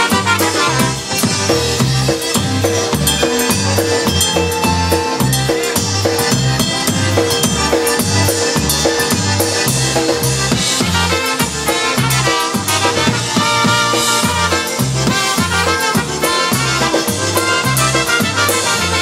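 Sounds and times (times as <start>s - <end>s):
bass oom-pah beat: 0.0s - 19.0s
polka band playing: 0.0s - 19.0s.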